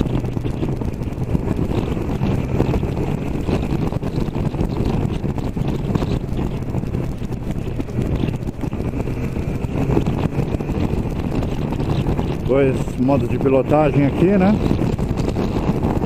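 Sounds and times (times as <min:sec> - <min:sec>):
motorcycle engine cruising: 0:00.0 - 0:16.0
wind buffeting microphone: 0:00.0 - 0:16.0.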